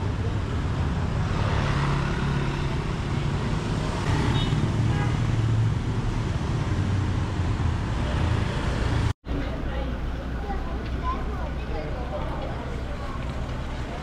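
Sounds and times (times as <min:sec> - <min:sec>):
traffic with engine rumble: 0:00.0 - 0:14.0.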